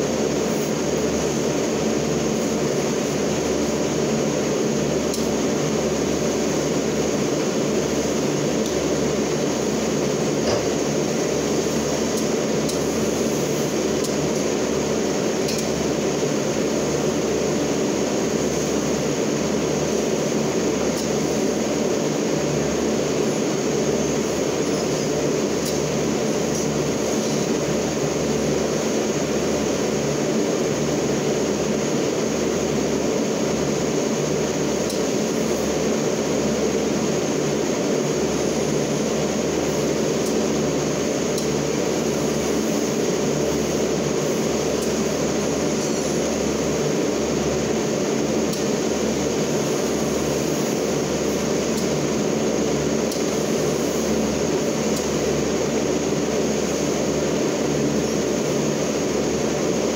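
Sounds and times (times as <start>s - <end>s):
forklift mechanical drone: 0.0s - 59.9s.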